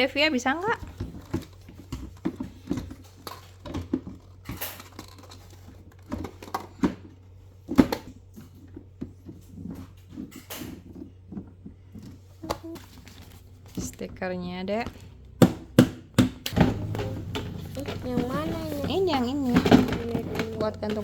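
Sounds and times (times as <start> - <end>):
plastic parts clicking and knocking: 0.7 - 12.9, 14.9 - 21.0.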